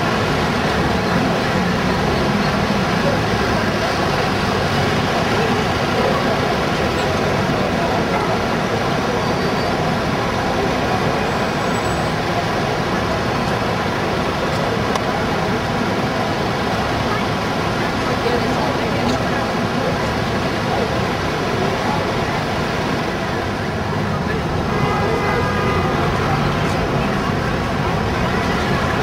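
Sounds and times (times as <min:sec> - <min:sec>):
buses running: 0:00.0 - 0:29.0
taxis running: 0:00.0 - 0:29.0.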